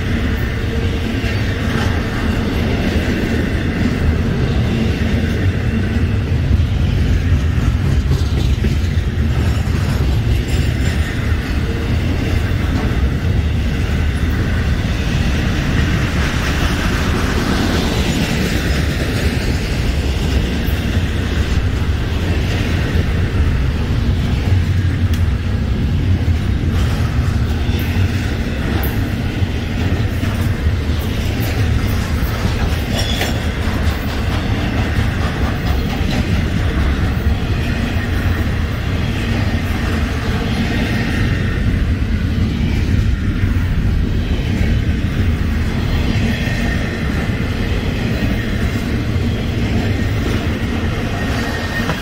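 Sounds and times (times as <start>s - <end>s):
freight train wheels rolling on rail: 0.0s - 52.0s.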